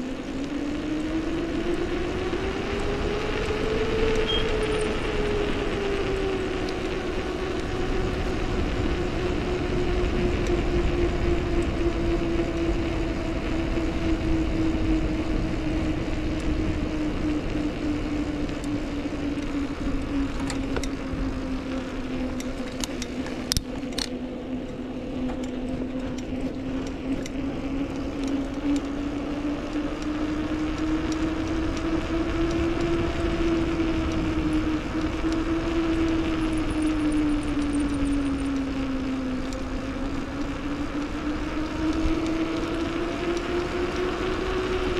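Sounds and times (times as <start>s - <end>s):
bicycle rolling on road: 0.0s - 44.9s
steady hum: 0.0s - 44.9s.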